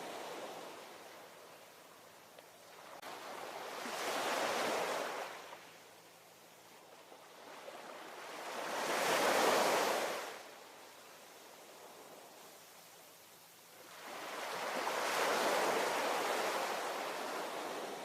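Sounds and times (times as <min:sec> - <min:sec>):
surf hiss: 0:00.0 - 0:18.0.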